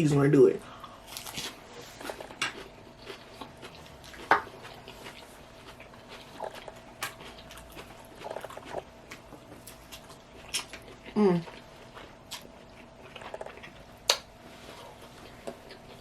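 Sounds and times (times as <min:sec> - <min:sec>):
faint steady hum: 0:00.0 - 0:16.0
crunchy chewing: 0:00.8 - 0:16.0.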